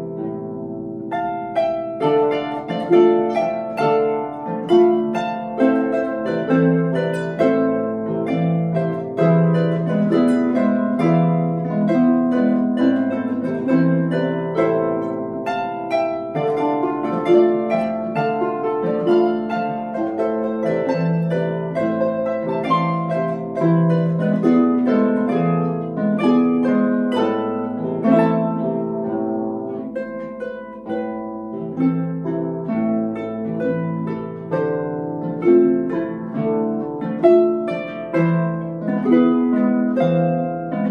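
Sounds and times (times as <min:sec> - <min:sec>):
harp duet: 0:00.0 - 0:40.9.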